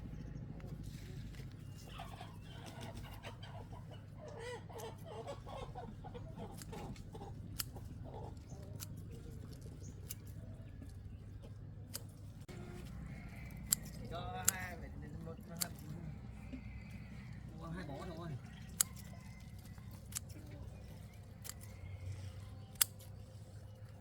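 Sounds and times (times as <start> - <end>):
steady low hum: 0.0 - 2.6, 4.9 - 24.0
chickens clucking: 0.2 - 11.8, 12.4 - 24.0.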